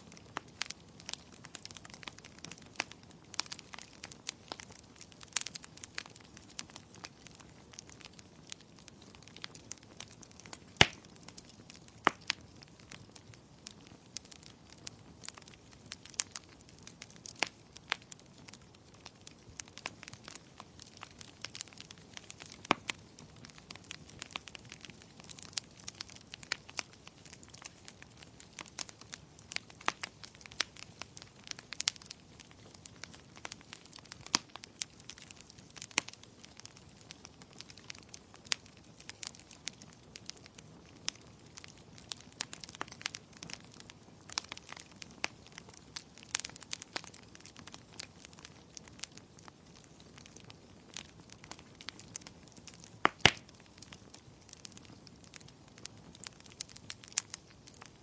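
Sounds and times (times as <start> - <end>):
wood fire crackling in fireplace: 0.0 - 58.0.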